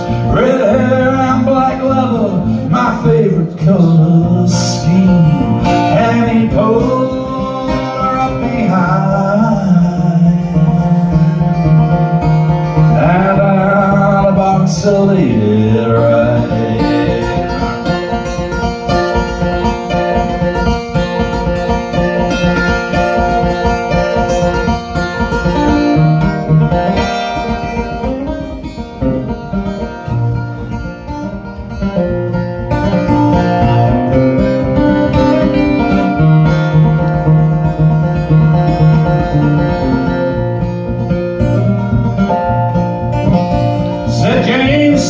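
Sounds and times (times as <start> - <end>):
acoustic guitar plucking: 0.0 - 45.0
person singing folk ballad: 0.0 - 45.0.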